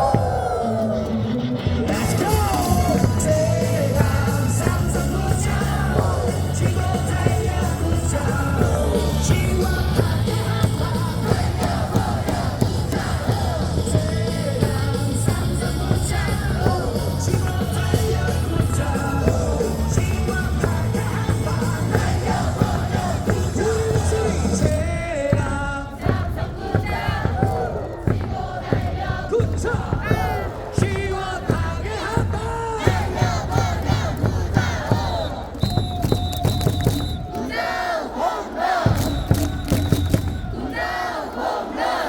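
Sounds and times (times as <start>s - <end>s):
crowd singing and yelling: 0.0s - 42.0s
loud music over stadium speakers: 0.0s - 42.0s.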